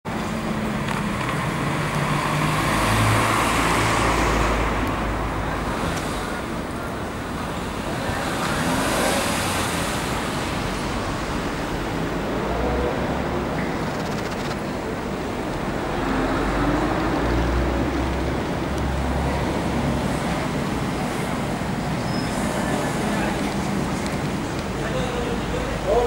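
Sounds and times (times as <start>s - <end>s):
cars passing: 0.1s - 26.0s.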